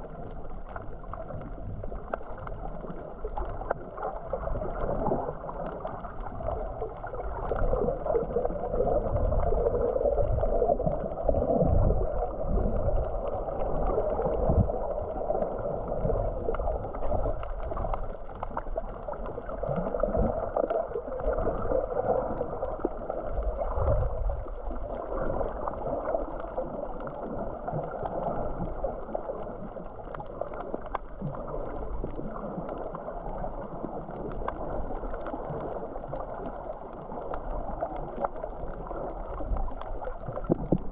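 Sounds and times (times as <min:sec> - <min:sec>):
muffled underwater rushing water: 0:00.0 - 0:40.9.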